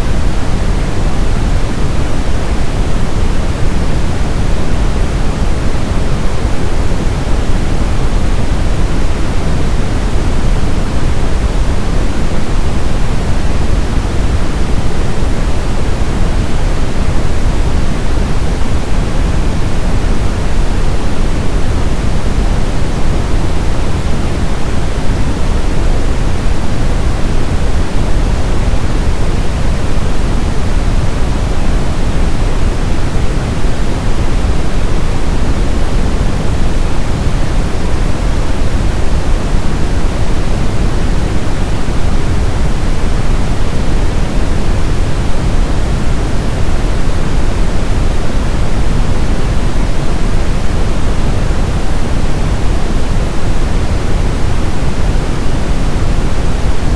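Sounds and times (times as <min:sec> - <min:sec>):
brown noise: 0:00.0 - 0:56.9.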